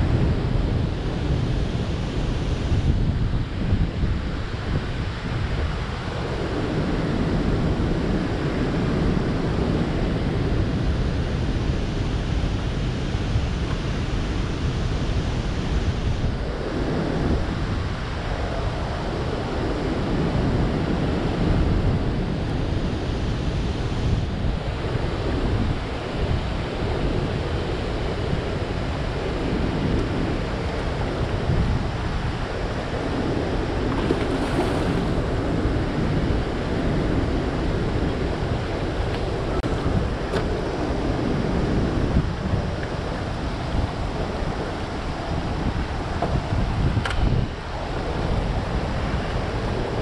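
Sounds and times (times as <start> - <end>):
rushing turbulent water: 0.0 - 50.0
wind buffeting microphone: 0.0 - 50.0.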